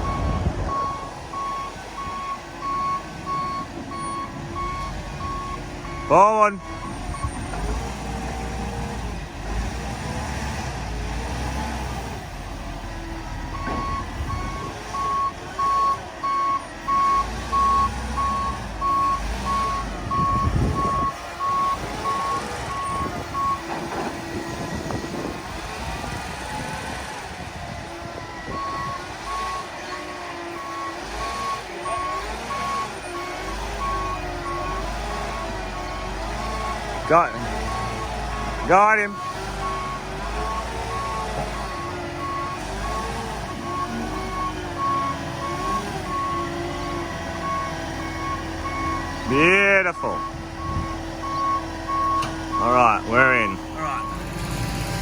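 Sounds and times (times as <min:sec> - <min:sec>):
diesel engine running: 0:00.0 - 0:55.0
truck reversing alarm beeping: 0:00.0 - 0:55.0.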